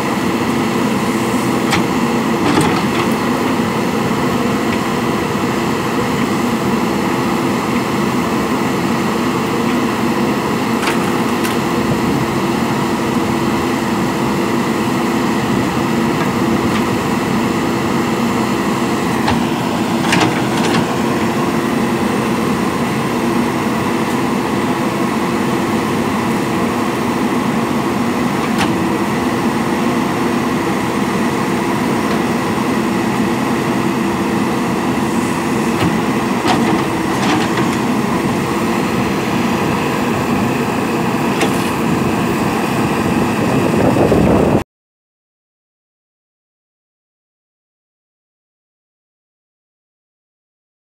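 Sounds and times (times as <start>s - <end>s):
diesel engine running: 0.0s - 44.6s.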